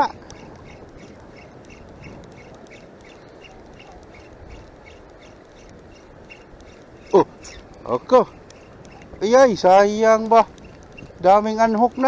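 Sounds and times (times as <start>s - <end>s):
fishing reel ticking: 0.0s - 12.0s
water: 0.0s - 12.0s
wind: 0.0s - 12.0s.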